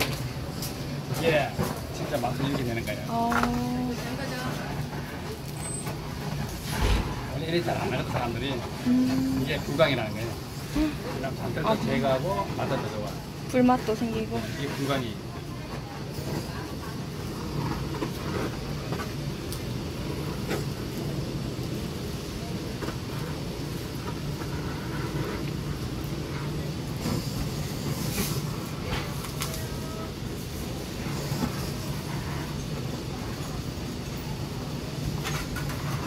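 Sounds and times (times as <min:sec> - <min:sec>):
gas blowtorch running: 0:00.0 - 0:36.0.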